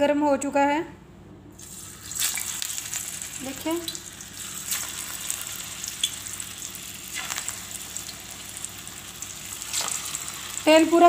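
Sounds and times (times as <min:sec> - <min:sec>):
patties sizzling in hot oil: 0:01.6 - 0:11.0.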